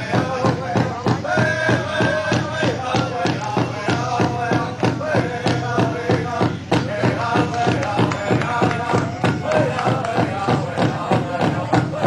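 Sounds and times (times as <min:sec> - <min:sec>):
large hand drum beating: 0:00.0 - 0:12.0
singers chanting in high voices: 0:00.0 - 0:12.0.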